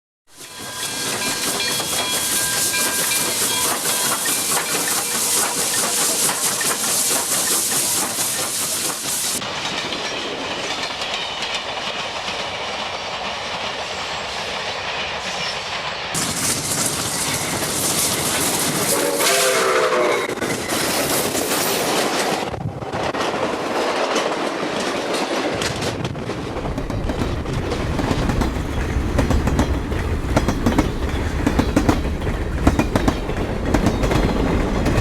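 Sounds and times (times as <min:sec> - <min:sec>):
train wheels clattering on rails: 0:00.3 - 0:19.7, 0:20.3 - 0:35.0.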